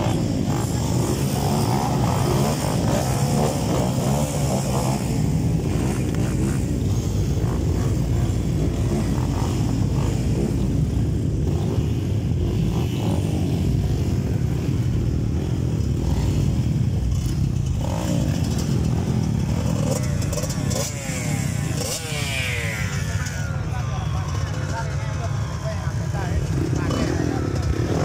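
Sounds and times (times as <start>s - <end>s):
motocross bike engines running: 0.0s - 28.0s.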